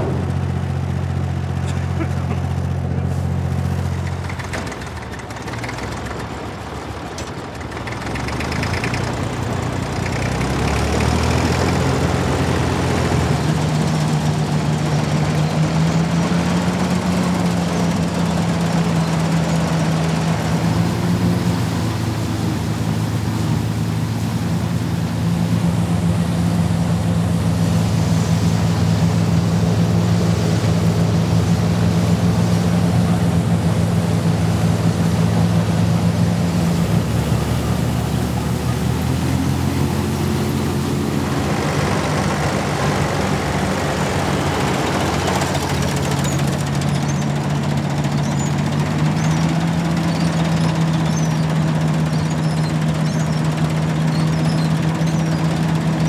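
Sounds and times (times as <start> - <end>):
threshing machinery running: 0.0 - 56.0
tractor diesel engine under load: 0.0 - 56.0.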